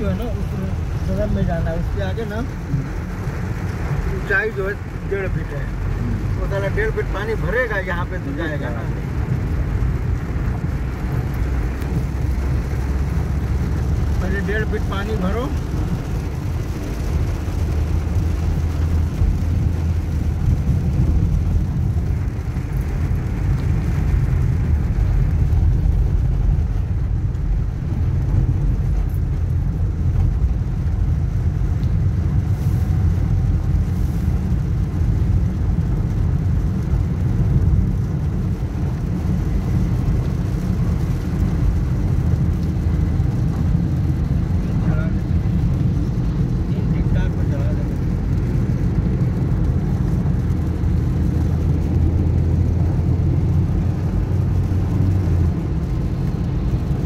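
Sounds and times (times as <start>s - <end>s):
car engine rumble: 0.0s - 57.0s
tyres on wet road: 0.0s - 57.0s.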